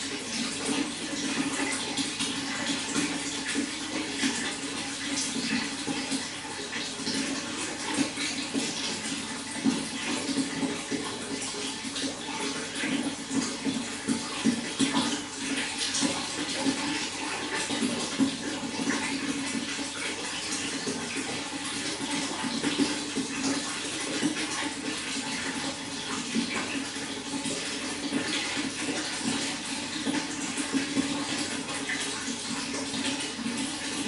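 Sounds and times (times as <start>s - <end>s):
running water gurgling: 0.0s - 34.0s.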